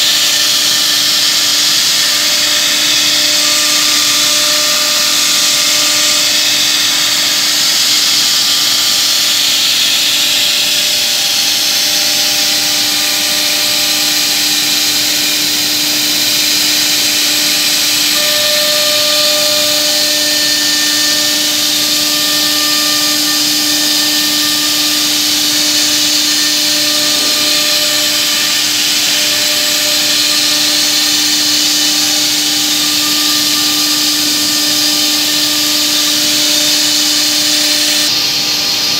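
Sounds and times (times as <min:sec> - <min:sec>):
constant machine hum: 0:00.0 - 0:38.9
drilling machine whirring hiss: 0:00.0 - 0:38.9
high machine whines: 0:00.0 - 0:38.9.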